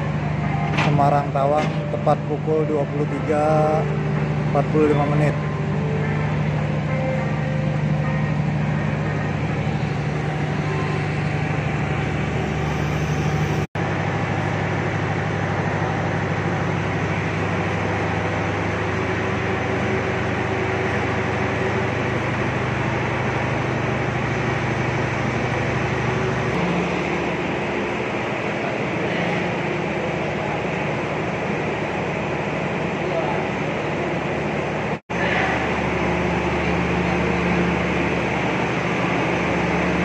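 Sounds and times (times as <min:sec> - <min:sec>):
idling train low hum: 0:00.0 - 0:40.0.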